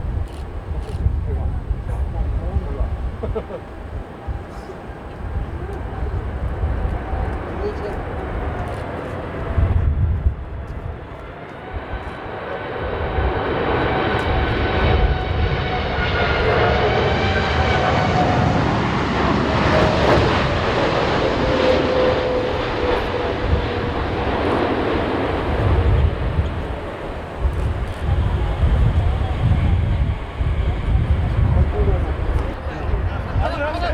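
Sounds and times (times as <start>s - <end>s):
jet airliner engine whine: 0.0s - 33.9s
wind buffeting microphone: 0.0s - 33.9s.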